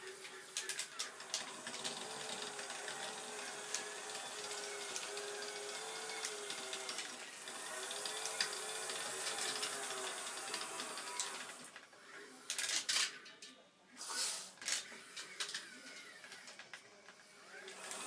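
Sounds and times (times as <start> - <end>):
model excavator motors whining: 0.0 - 13.3, 14.0 - 18.0.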